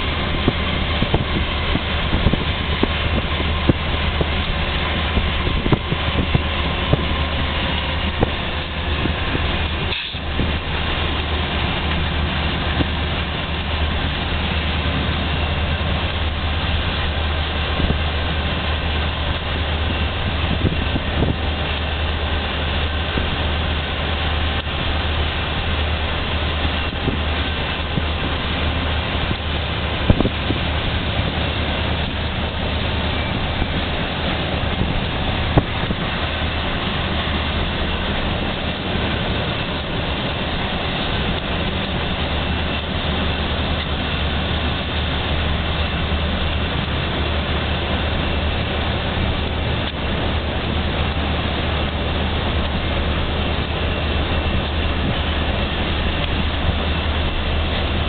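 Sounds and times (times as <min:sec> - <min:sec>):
diesel locomotive engine drone: 0:00.0 - 0:58.0
road and wind noise: 0:00.0 - 0:58.0.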